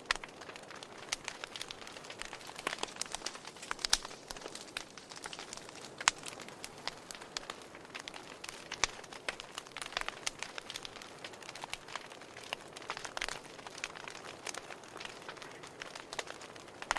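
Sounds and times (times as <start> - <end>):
sharp pops of fire: 0.0 - 16.9
wood fire crackling: 0.0 - 16.9.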